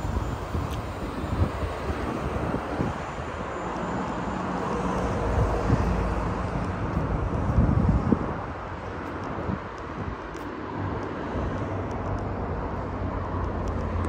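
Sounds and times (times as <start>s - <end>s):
wind buffeting microphone: 0.0s - 12.3s
road traffic: 0.0s - 14.0s.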